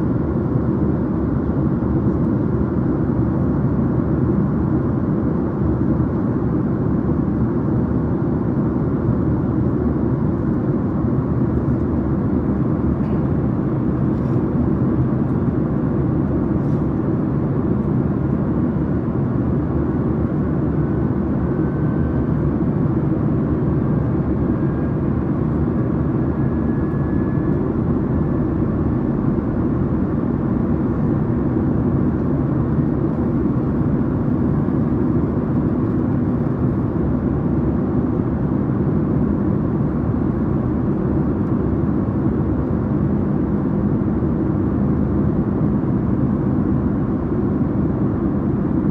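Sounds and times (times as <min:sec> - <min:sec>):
airplane drone: 0:00.0 - 0:48.9.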